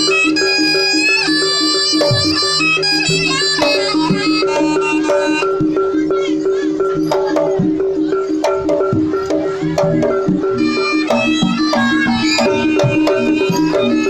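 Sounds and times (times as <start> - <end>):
drum strokes: 0.0 - 14.0.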